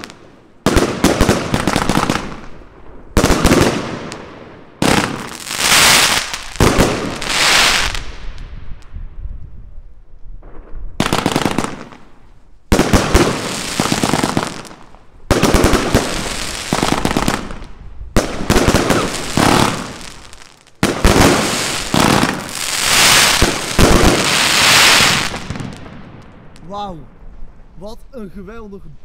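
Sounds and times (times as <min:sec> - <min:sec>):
fireworks bangs and crackling: 0:00.0 - 0:09.2, 0:10.3 - 0:28.0.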